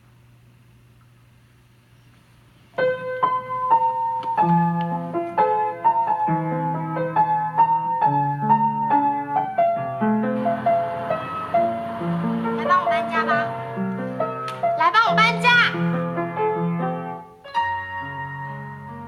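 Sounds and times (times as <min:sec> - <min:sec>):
faint steady hum: 0:00.0 - 0:16.3
solo piano ballad over loudspeakers: 0:02.7 - 0:19.0.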